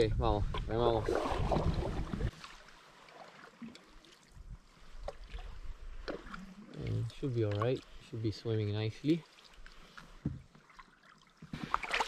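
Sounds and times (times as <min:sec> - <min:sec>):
paddles splashing in water: 0:00.9 - 0:08.1, 0:09.0 - 0:12.0.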